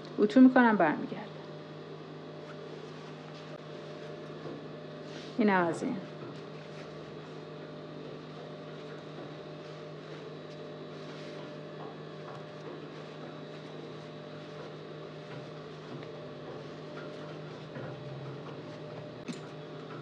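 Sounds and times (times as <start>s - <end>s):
electric motor hum: 0.9s - 20.0s
fabric rustling: 2.4s - 7.4s, 8.0s - 19.2s.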